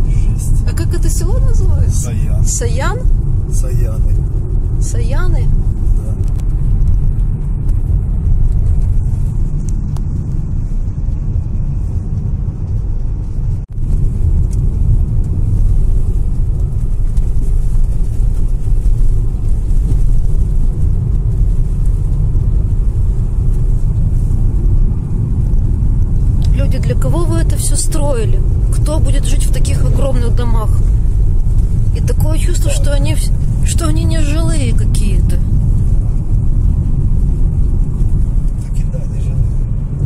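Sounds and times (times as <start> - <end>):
car cabin road rumble: 0.0 - 40.0.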